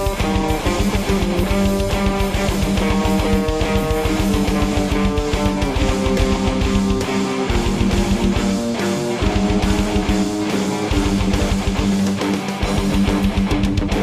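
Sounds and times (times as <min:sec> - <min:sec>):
drum kit steady beat: 0:00.0 - 0:14.0
electric guitar chords: 0:00.0 - 0:14.0.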